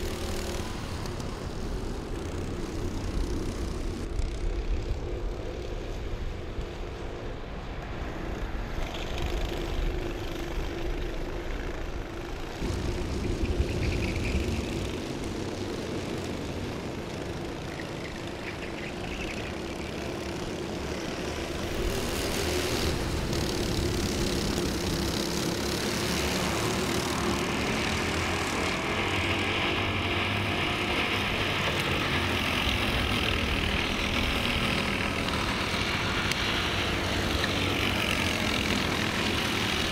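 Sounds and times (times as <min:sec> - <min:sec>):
racing kart engines: 0:00.0 - 0:39.9.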